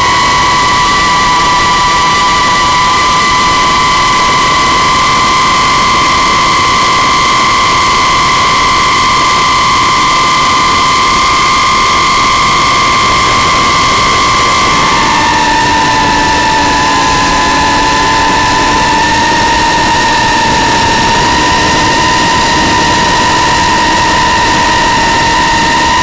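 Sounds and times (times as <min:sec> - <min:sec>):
drone motors high whine: 0:00.0 - 0:26.0
rushing prop wash and wind: 0:00.0 - 0:26.0.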